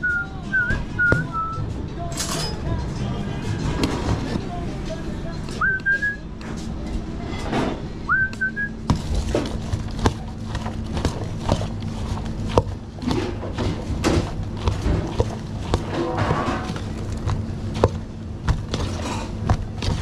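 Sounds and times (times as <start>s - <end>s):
steady low hum: 0.0s - 20.0s
cooking utensils clattering: 0.5s - 5.5s, 8.9s - 20.0s.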